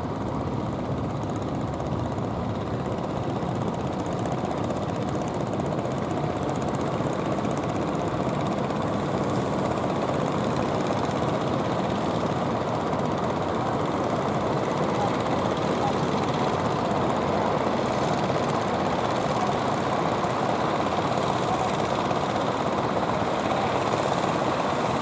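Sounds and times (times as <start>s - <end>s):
boat engines rumbling: 0.1s - 25.0s.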